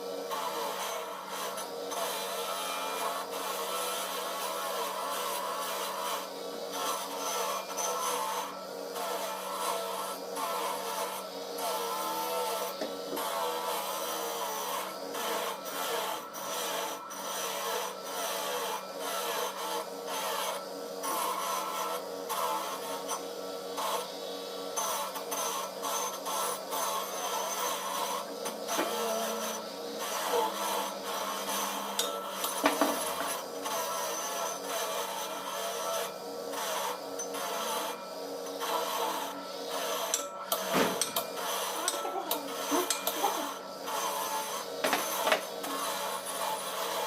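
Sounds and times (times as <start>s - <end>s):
hand tool rasping back and forth: 0.0s - 47.0s.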